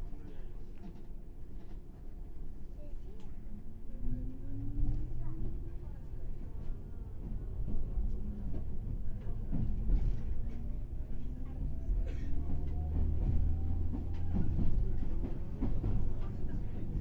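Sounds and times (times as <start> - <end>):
train wheels rumbling on rail: 0.1 - 17.0.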